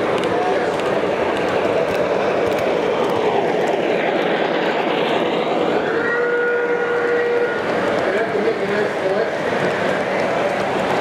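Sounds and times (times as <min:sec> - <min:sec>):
model train wheels rumbling: 0:00.0 - 0:11.0.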